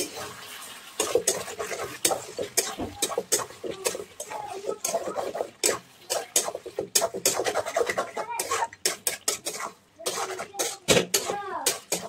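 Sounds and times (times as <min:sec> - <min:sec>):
metal spatula scraping pan: 0:00.0 - 0:12.0.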